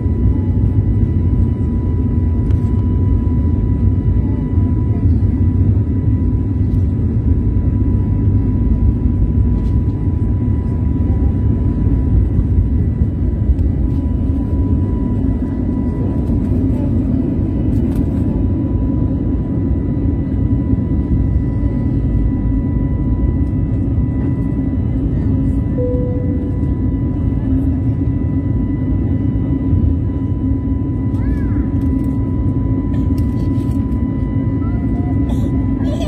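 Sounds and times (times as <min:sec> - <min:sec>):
jet engine low rumble: 0:00.0 - 0:36.0
jet engine thin whine: 0:00.0 - 0:36.0.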